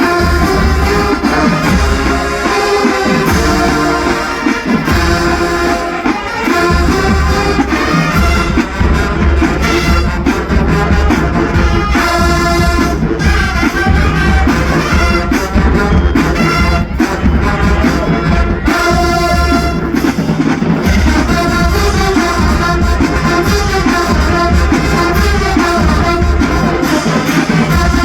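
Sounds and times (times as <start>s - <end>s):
drums: 0.0s - 28.0s
marching band brass: 0.0s - 28.0s.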